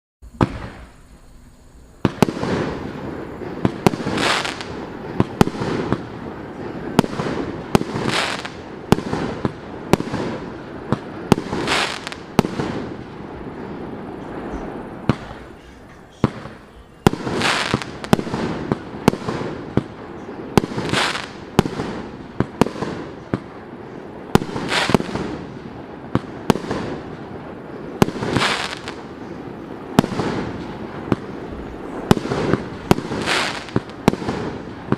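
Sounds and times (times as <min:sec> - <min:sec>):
fireworks hissing bursts: 0:00.2 - 0:34.9
fireworks launch reports: 0:00.2 - 0:34.9.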